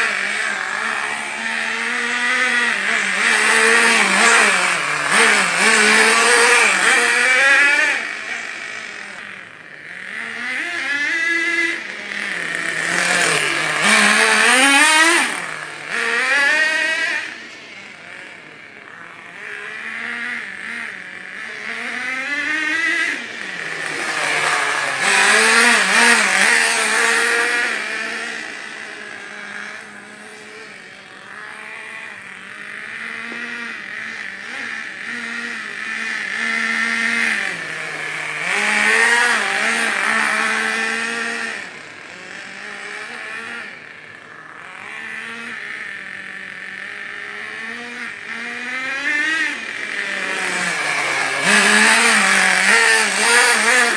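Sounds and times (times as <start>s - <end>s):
rc car engine revving: 0.0s - 53.9s.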